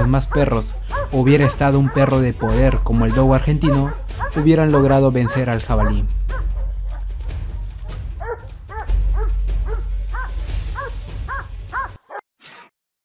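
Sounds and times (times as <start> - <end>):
low music bed: 0.0 - 11.7
dogs yelping: 0.0 - 12.2.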